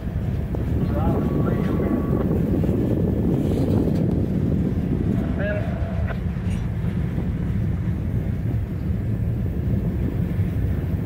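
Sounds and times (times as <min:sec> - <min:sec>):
freight train rumbling past: 0:00.0 - 0:11.0
wind buffeting microphone: 0:00.0 - 0:11.0.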